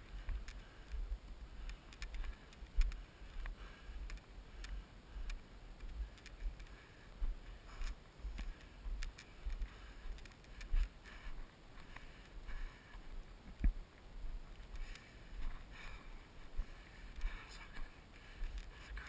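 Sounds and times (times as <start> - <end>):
heavy labored breathing: 0.0 - 13.2, 14.7 - 19.0.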